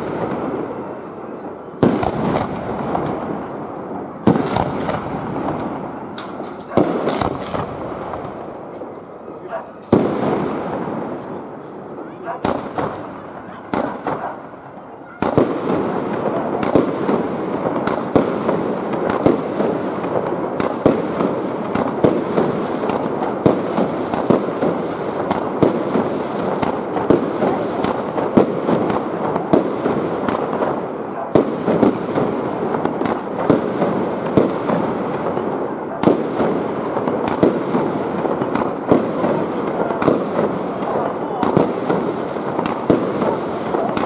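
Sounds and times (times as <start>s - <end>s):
fireworks bursting with sharp bangs: 0.0s - 44.0s.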